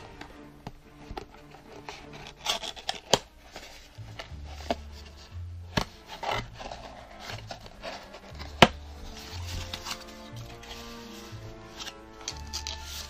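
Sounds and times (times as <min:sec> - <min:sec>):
cardboard rubbing and scraping: 0:01.1 - 0:13.0.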